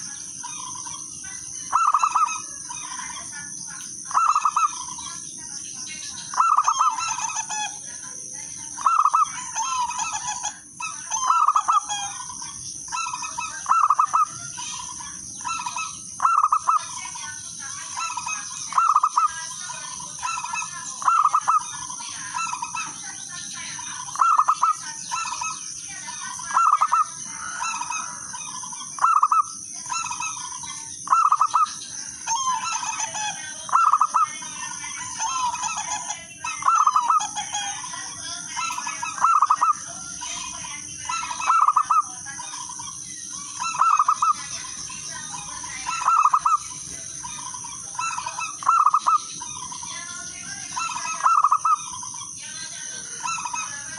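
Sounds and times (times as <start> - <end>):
dove cooing: 0.0 - 53.9
steady high-pitched hum: 0.0 - 53.9.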